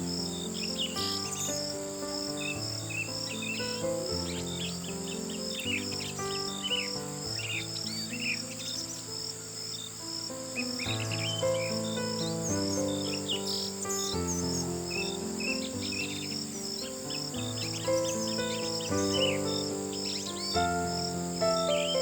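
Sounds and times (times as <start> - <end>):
birds chirping: 0.0 - 22.0
crickets chirping: 0.0 - 22.0
soft music of sustained chords: 0.0 - 22.0.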